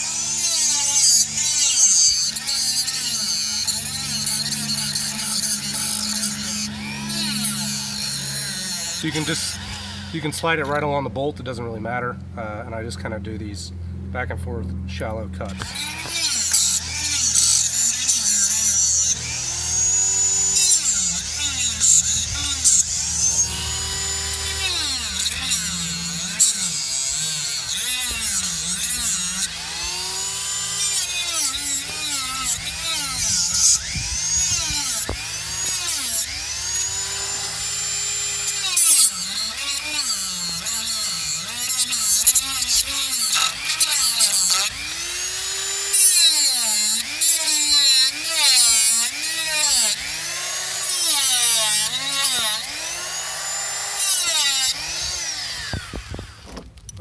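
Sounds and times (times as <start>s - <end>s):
rotary tool cutting wood: 0.0s - 11.8s, 15.0s - 57.0s.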